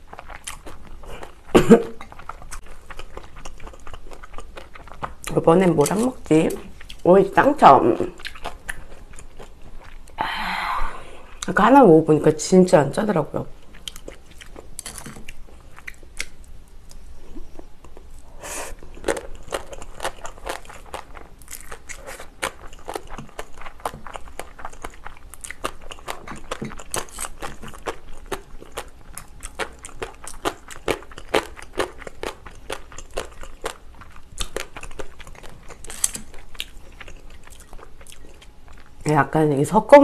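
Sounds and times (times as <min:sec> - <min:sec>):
crunchy chewing: 0:00.0 - 0:10.2, 0:13.6 - 0:39.1.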